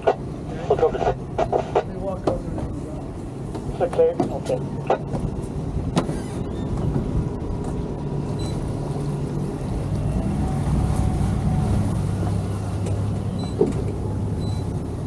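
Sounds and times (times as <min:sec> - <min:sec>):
outboard motors running: 0:00.0 - 0:15.0.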